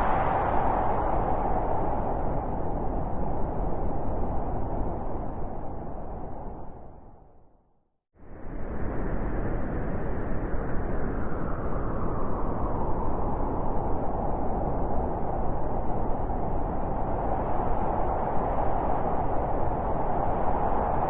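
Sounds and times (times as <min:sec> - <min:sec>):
wind blowing: 0:00.0 - 0:07.4, 0:08.3 - 0:21.0.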